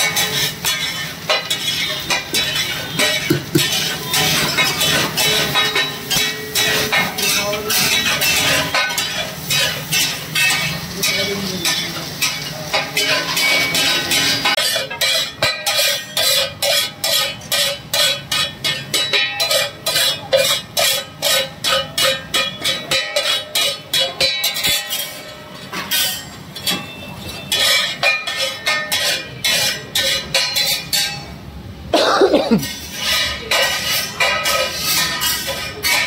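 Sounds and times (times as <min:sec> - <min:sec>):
spatula striking iron griddle: 0:00.0 - 0:31.4, 0:32.5 - 0:36.0.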